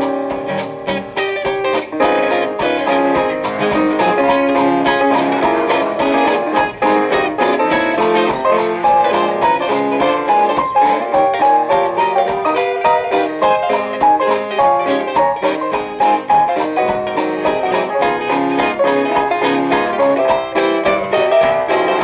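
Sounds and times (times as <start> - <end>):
drums with steady cymbal beat: 0.0 - 22.0
guitar and piano playing jazz: 0.0 - 22.0.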